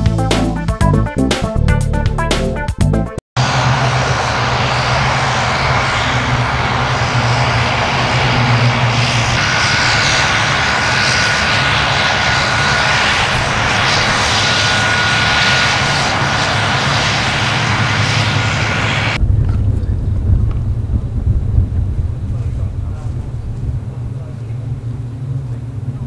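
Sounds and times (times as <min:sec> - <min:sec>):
high whine: 0:03.4 - 0:26.0
turboprop engine running: 0:03.4 - 0:26.0.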